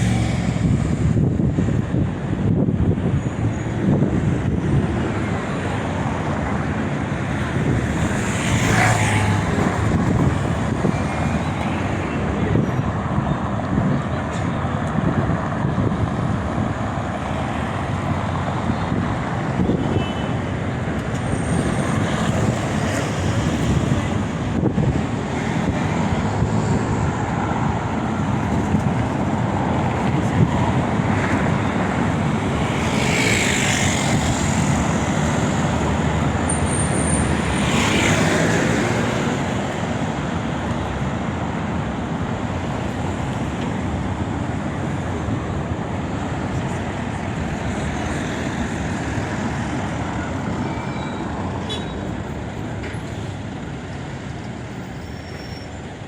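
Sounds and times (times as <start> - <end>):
loud vehicles passing: 0.0 - 55.0
road traffic: 0.0 - 56.0.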